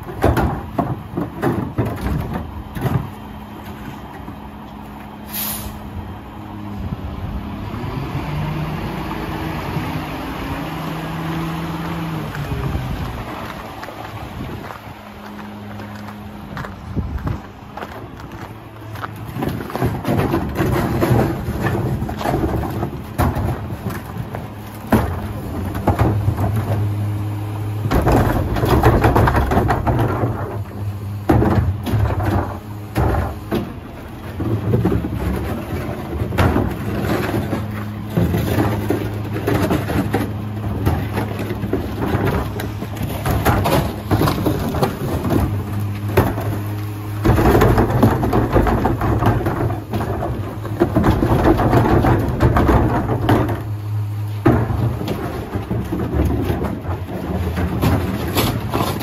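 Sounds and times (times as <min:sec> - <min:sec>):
garbage carts clanking and banging: 0:00.0 - 0:59.0
garbage truck diesel engine: 0:00.0 - 0:59.0.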